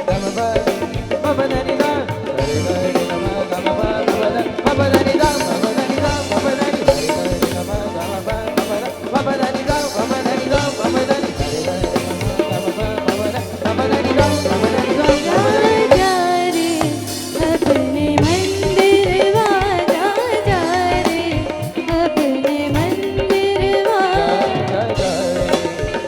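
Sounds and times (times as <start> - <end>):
bending melodic lead line: 0.0 - 26.0
devotional band music: 0.0 - 26.0
drums and tabla beat: 0.0 - 26.0.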